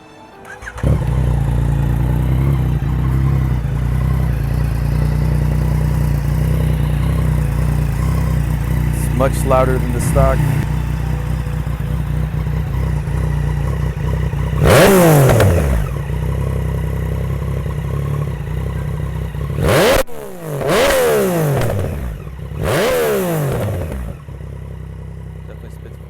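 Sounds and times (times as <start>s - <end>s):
motorcycle engine idling and revving: 0.5s - 26.0s.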